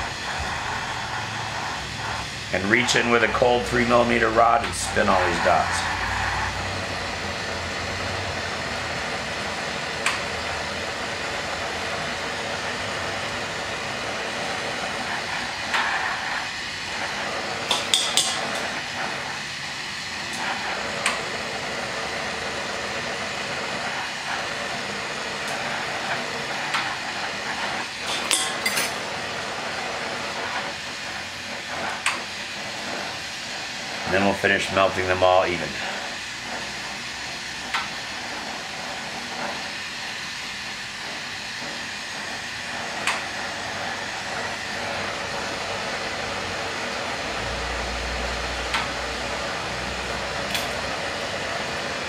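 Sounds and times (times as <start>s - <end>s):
torch flame hissing: 0.0s - 52.0s.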